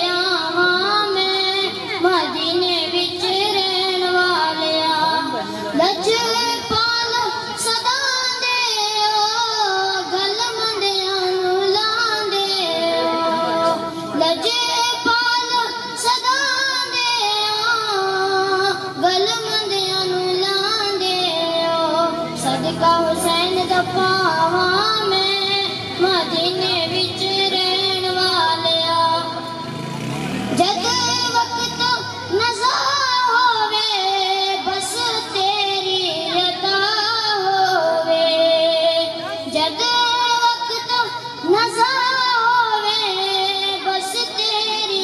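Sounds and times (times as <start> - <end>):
boy singing into a microphone: 0.0 - 29.8, 30.5 - 45.0.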